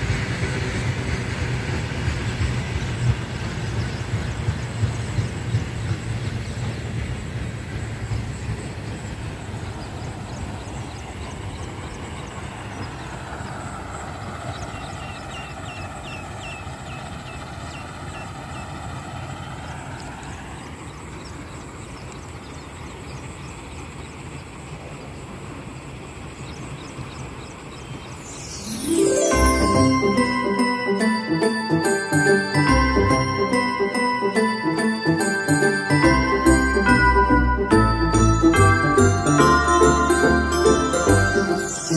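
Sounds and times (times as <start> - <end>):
train rumbling: 0.0 - 41.9.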